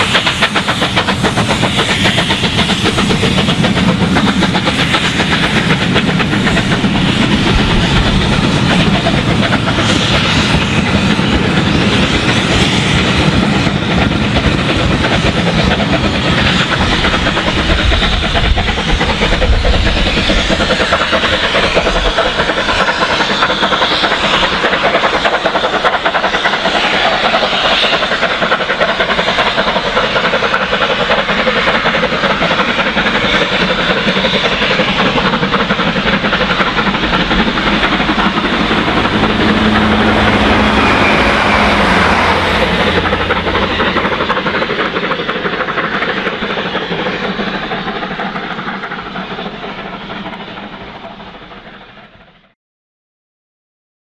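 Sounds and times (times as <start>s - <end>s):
train wheels over rail joints: 0.0s - 52.5s
steam locomotive exhaust: 0.0s - 52.6s.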